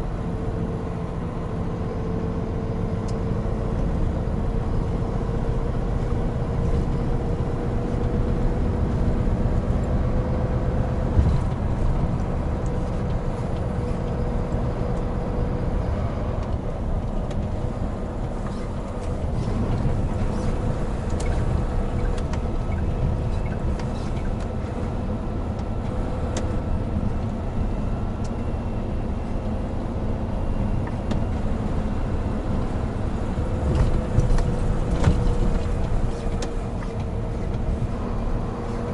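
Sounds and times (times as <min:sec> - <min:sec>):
diesel truck engine rumble: 0:00.0 - 0:38.9
road noise: 0:00.0 - 0:38.9.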